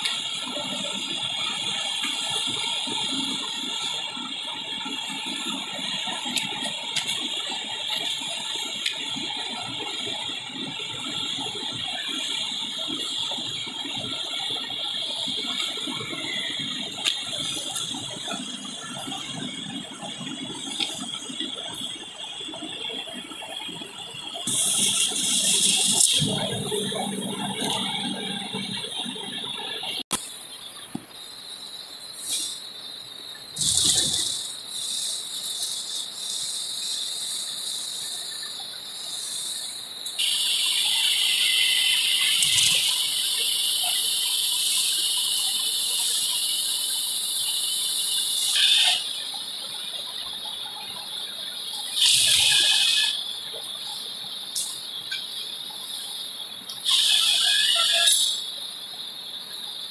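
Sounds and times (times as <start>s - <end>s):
loud burst of noise: 0.0s - 54.0s.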